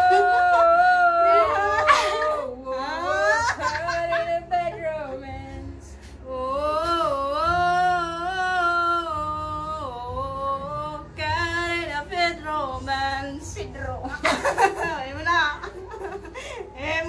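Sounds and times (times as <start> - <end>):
woman singing: 0.0 - 15.9, 16.7 - 17.0.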